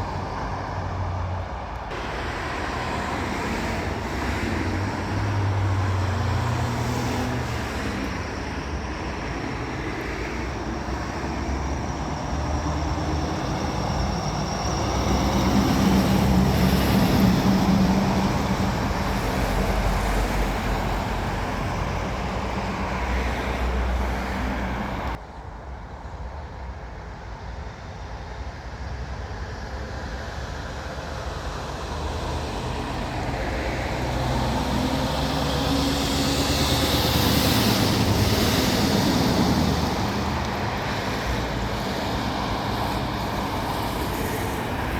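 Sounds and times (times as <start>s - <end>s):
heavy trucks driving past: 0.0s - 25.2s, 29.4s - 44.9s
traffic and tyre noise: 0.0s - 44.9s.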